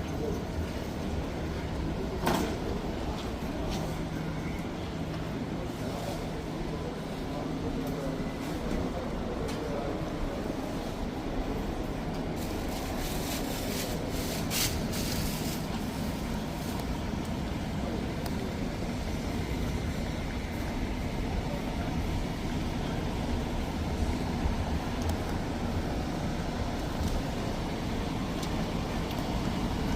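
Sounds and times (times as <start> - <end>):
low traffic rumble: 0.0 - 29.9.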